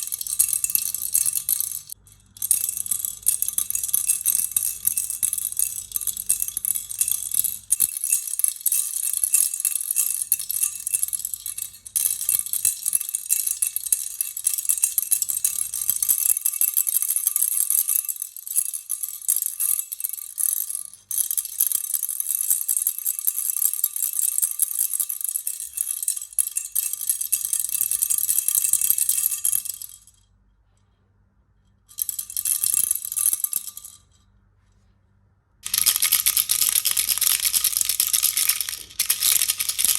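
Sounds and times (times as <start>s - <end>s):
baby rattle shaken: 0.0s - 30.1s, 31.9s - 34.1s, 35.6s - 39.9s.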